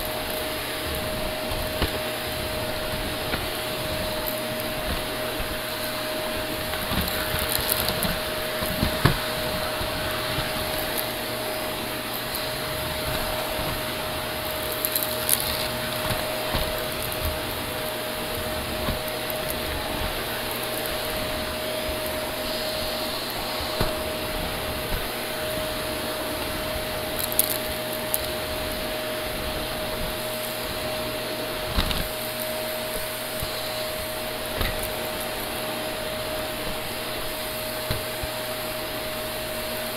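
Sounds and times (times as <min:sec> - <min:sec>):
vacuum cleaner humming: 0:00.0 - 0:39.9.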